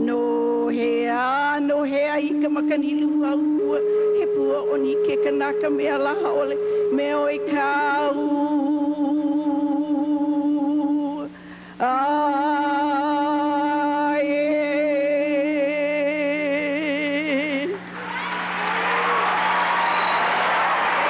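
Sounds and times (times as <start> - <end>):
woman chanting: 0.0 - 18.4.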